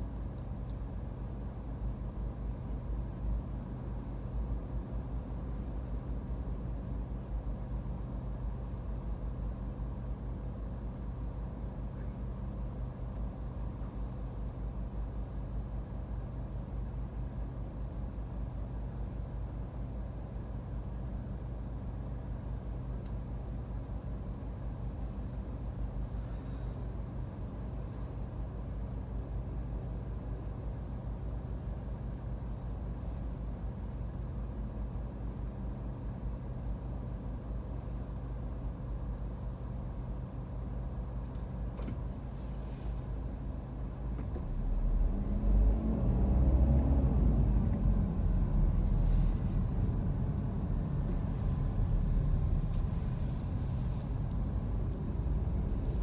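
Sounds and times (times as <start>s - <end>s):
car engine idling hum: 0.0s - 56.0s.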